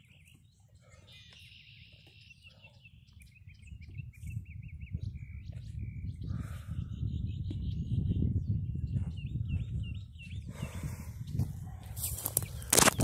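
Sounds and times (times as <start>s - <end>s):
songbirds trilling and warbling: 0.0s - 13.0s.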